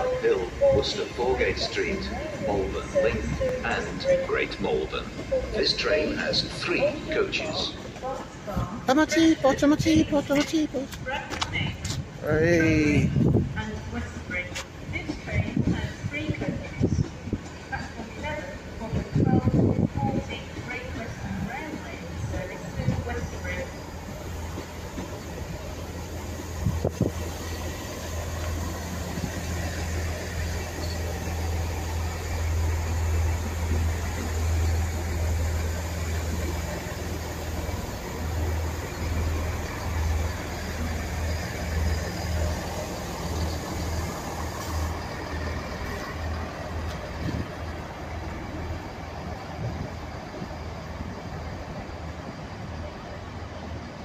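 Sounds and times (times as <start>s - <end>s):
diesel train engine humming: 0.0s - 54.0s.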